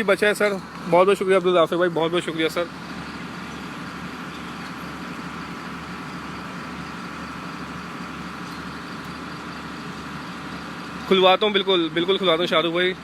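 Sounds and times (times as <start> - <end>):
vehicle engines droning: 0.0 - 13.0.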